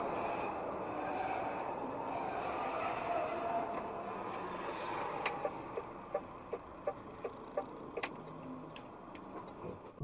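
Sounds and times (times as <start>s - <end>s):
road and engine noise: 0.0s - 10.0s.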